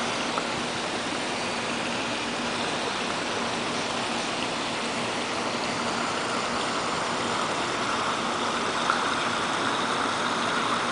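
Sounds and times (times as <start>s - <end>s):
water splashing into pool: 0.0s - 10.9s.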